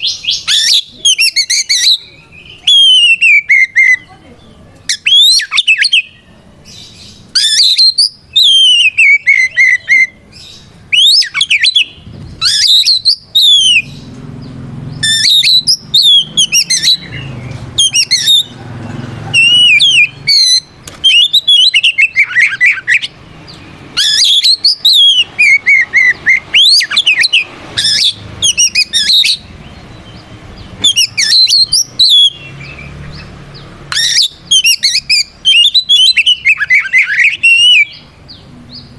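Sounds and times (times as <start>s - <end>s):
bird singing whistles and chirps: 0.0s - 4.1s, 4.9s - 18.6s, 19.3s - 38.9s.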